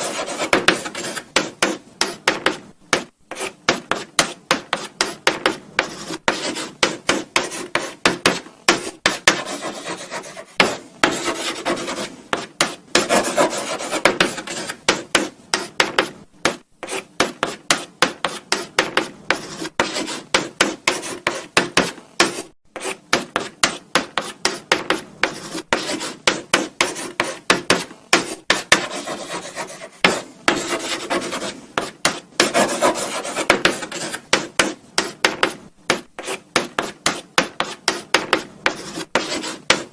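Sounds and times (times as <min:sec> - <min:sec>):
chalk writing on a blackboard: 0:00.0 - 0:39.9.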